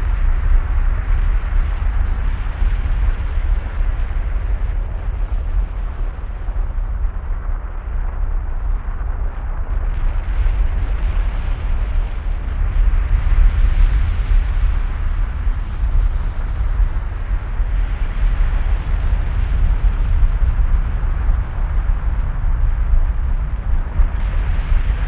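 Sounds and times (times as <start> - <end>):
deep roar of lava fountain: 0.0 - 25.0.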